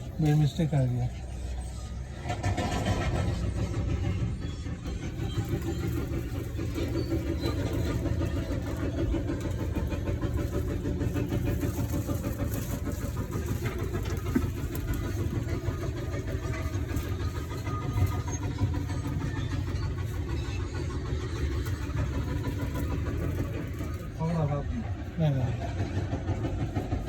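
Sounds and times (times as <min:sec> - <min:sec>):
bus engine rumbling: 0:00.0 - 0:27.0.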